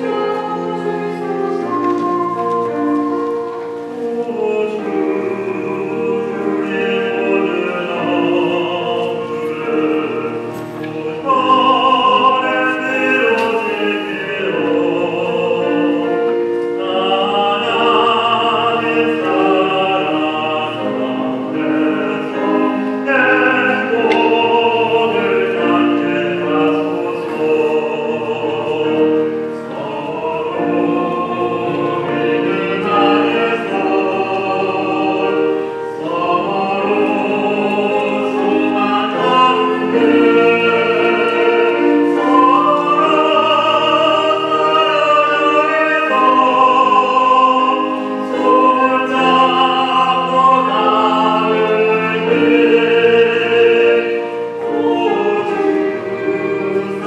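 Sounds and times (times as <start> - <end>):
man singing: 0.0 - 57.0
piano accompaniment: 0.0 - 57.0.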